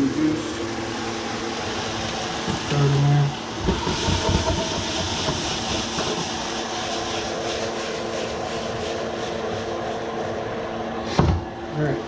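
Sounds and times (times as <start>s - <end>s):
liquid sizzling in a hot pan: 0.0s - 11.2s.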